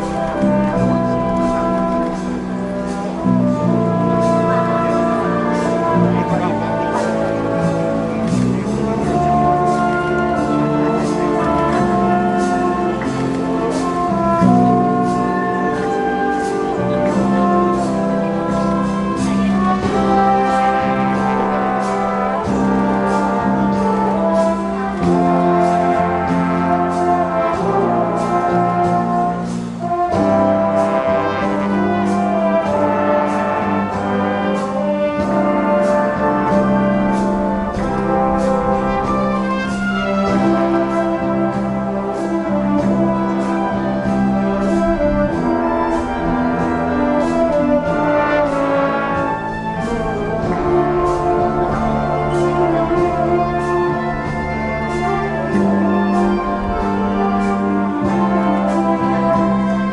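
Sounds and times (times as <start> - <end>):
brass playing tune: 0.0 - 59.9
steady drumbeat: 0.0 - 59.9.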